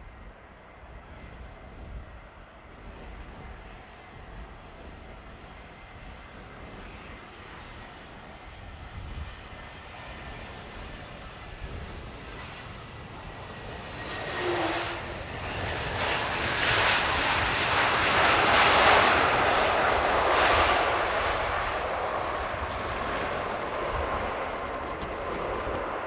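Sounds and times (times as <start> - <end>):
jet airliner landing: 0.0 - 26.0
wind buffeting microphone: 0.0 - 26.0.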